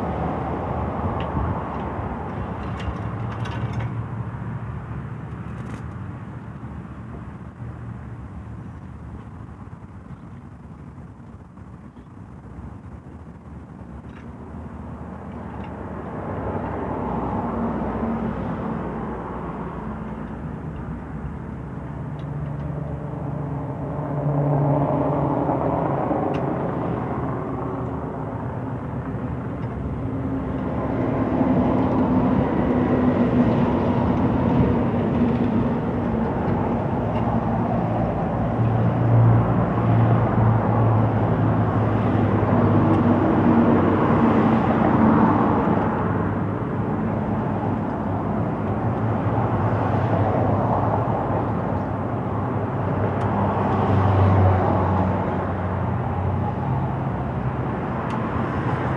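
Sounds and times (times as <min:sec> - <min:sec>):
engine drone: 0:00.0 - 0:58.9.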